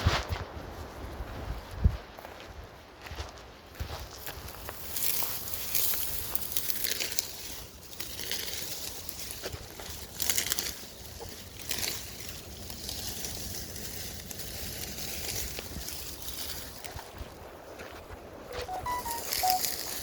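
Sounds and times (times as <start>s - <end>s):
dry leaves and twigs crunching: 3.0s - 19.8s.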